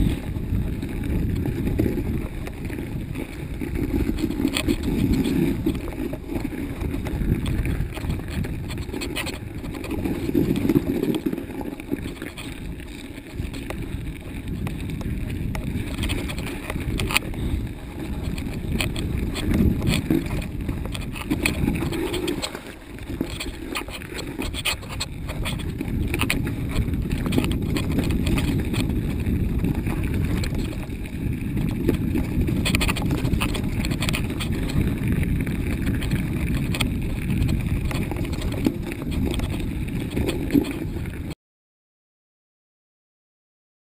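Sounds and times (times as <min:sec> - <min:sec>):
bike rattling and clicking: 0:00.0 - 0:41.4
wind rumbling on microphone: 0:00.0 - 0:41.4.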